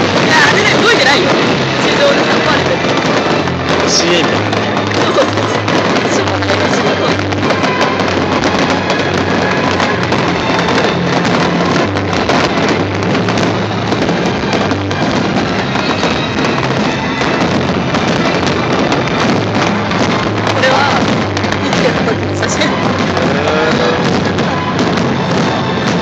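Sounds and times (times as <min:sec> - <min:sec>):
fireworks crackling and popping: 0:00.0 - 0:26.0
music playing: 0:00.0 - 0:26.0.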